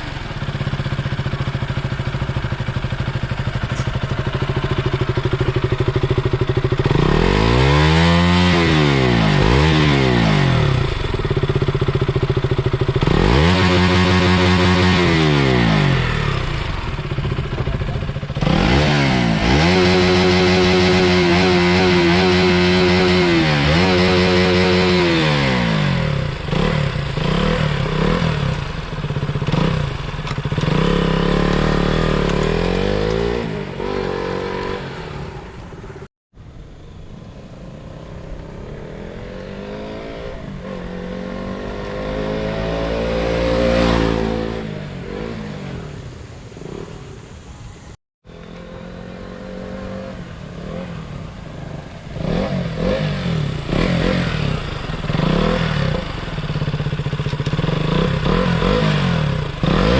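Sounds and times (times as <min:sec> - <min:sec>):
motorcycle engine revving: 0:00.0 - 0:36.1, 0:38.0 - 0:59.9.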